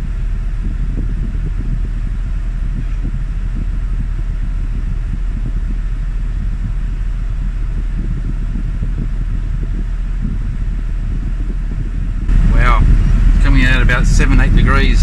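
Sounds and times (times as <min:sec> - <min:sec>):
air-conditioning blower rushing: 0:00.0 - 0:15.0.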